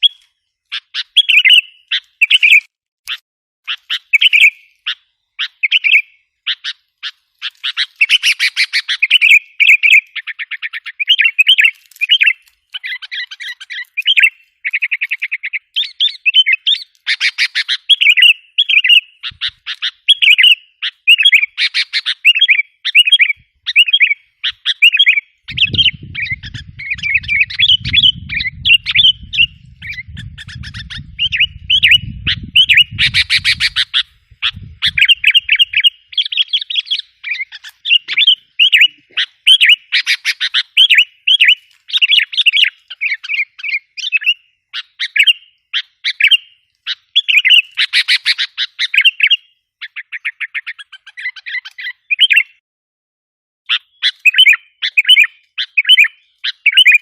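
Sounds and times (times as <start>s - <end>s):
bird chirping and trilling: 0.0s - 52.6s, 53.7s - 57.0s.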